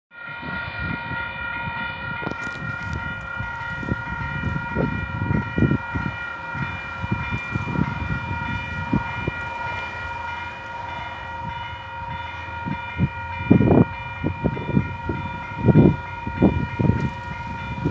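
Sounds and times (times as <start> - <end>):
level crossing bells ringing: 0.2 - 17.9.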